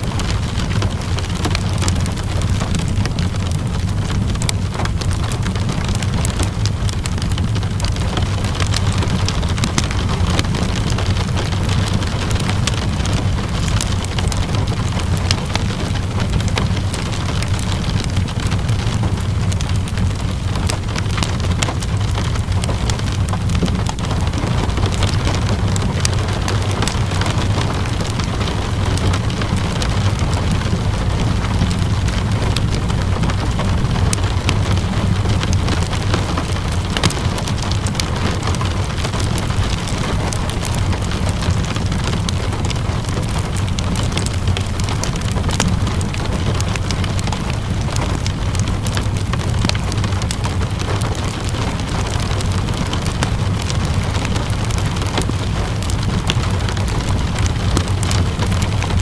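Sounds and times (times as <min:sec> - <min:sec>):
steady rainfall: 0:00.0 - 0:59.0
wood fire crackling: 0:00.0 - 0:59.0.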